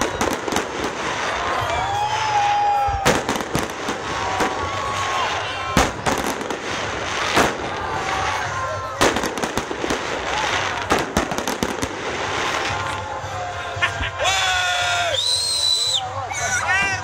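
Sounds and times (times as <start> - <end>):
fireworks bangs: 0.0 - 14.2
noisy background: 0.0 - 17.0
onlookers' voices: 0.0 - 17.0.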